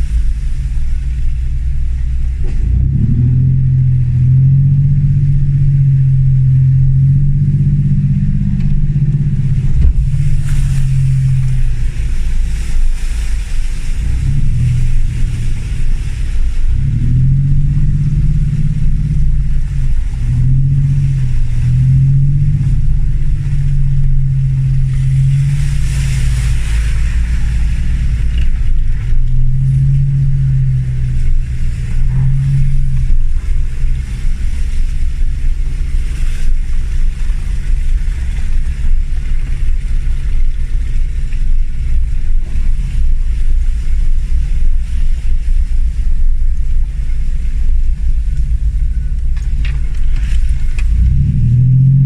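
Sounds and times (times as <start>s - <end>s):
diesel engine driving off-road: 0.0s - 52.0s.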